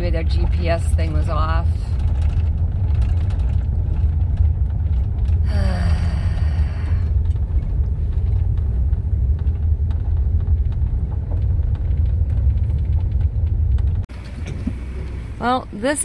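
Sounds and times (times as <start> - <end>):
gravel ticking under tyres: 0.0 - 16.0
vehicle rumbling on gravel road: 0.0 - 16.0.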